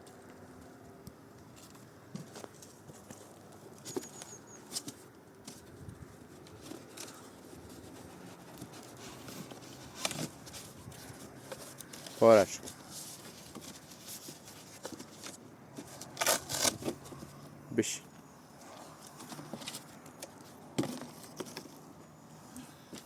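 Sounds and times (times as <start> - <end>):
faint knocks and rustles: 1.5 - 16.2, 18.6 - 23.0.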